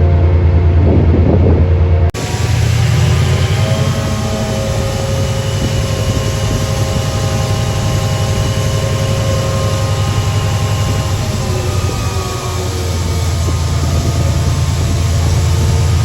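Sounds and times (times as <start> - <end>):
train engine rumbling and whining: 0.0 - 16.0.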